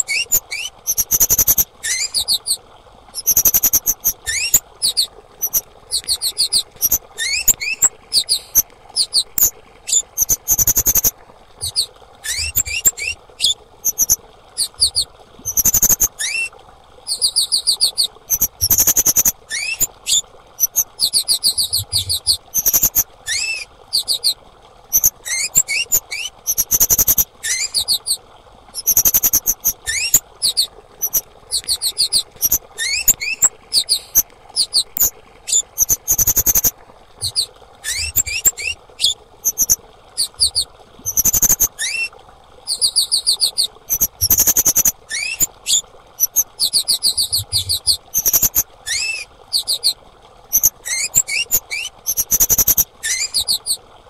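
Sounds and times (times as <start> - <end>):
bird high-pitched rapid trills: 0.0 - 2.6, 3.2 - 16.5, 17.1 - 28.2, 28.8 - 42.1, 43.9 - 49.9.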